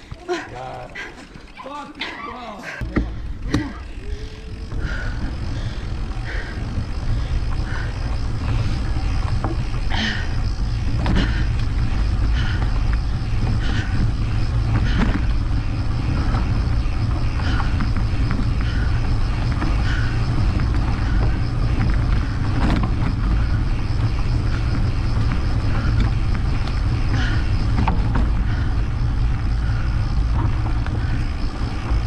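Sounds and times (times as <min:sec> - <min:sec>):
bike clicks and knocks: 0:02.8 - 0:32.0
wind buffeting microphone: 0:02.8 - 0:32.0.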